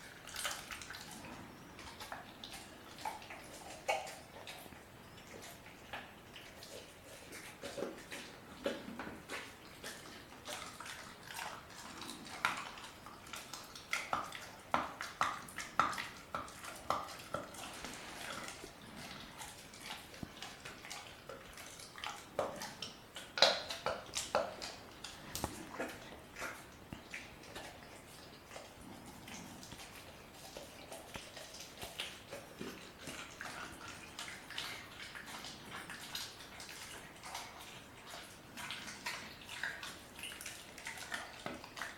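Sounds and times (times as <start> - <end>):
dog chewing wet smacking: 0.0 - 41.9.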